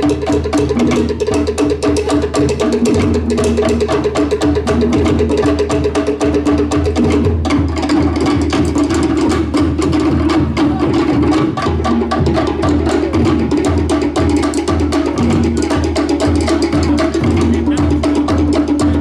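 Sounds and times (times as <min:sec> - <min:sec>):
deeper drum beats: 0:00.0 - 0:19.0
wooden slit drums: 0:00.0 - 0:19.0.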